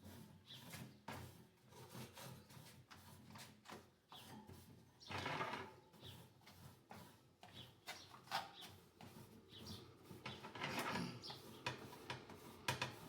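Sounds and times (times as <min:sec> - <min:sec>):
rubbing and scraping on plastic: 0:00.0 - 0:13.0.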